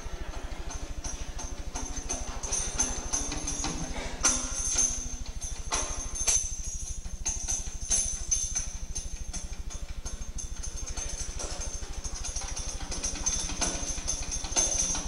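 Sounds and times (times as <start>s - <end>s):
jingling bells: 0.0s - 15.0s
sharp percussive strikes: 0.0s - 15.0s
steady low hum: 0.0s - 15.0s.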